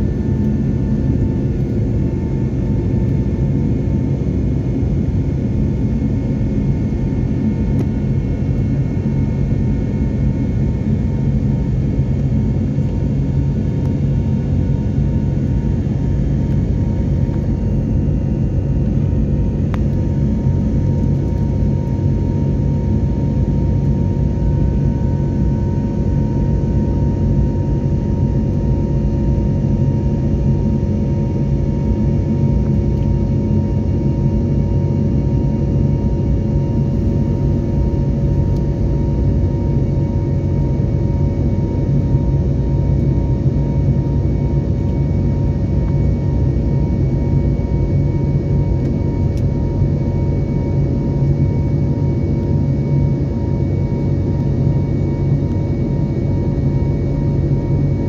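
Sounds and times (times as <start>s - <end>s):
constant humming tones: 0.0s - 58.0s
jet cabin rumble: 0.0s - 58.0s.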